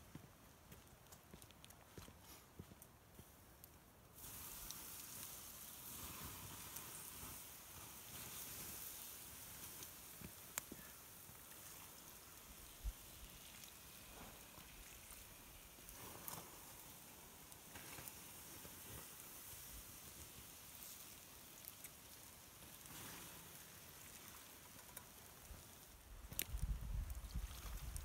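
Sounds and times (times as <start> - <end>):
water hissing on hot coals: 0.9 - 28.0.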